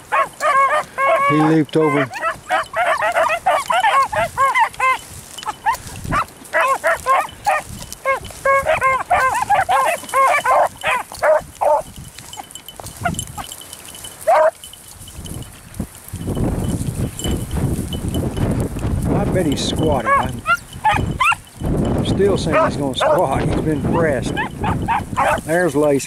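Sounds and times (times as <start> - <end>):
hounds bawling and yelping: 0.0 - 15.5, 19.6 - 25.6.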